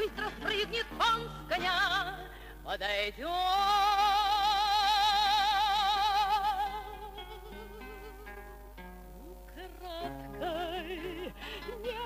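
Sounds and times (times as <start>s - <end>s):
woman singing with vibrato: 0.0s - 8.4s, 9.5s - 12.0s
acoustic guitar: 0.0s - 12.0s.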